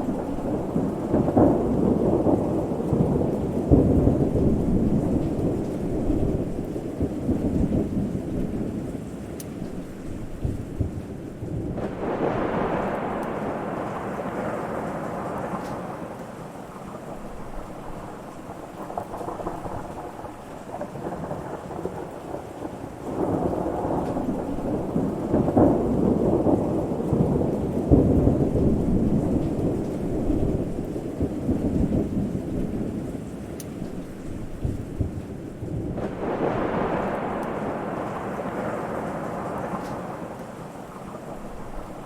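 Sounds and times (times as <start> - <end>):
rolling thunder: 0.0 - 42.0
steady rain: 0.0 - 42.0.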